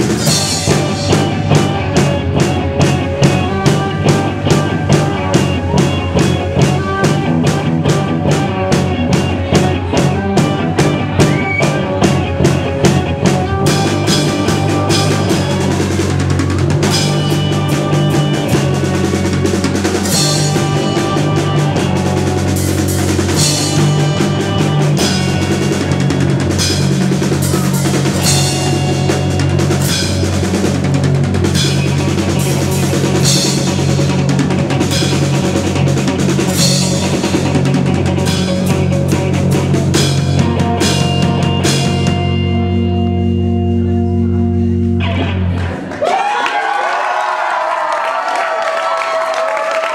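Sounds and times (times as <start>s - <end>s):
electric guitar ringing: 0.0s - 45.9s
drum kit: 0.0s - 46.3s
live rock band playing: 0.0s - 46.3s
crowd noise: 0.0s - 49.9s.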